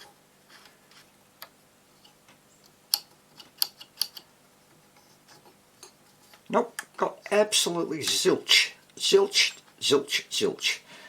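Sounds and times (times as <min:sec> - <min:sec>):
faint mains hum: 0:00.0 - 0:11.0.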